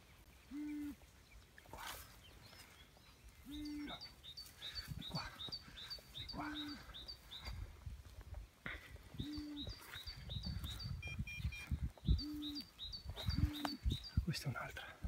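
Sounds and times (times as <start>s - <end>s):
bird chirping: 0.0s - 7.7s, 9.1s - 14.9s.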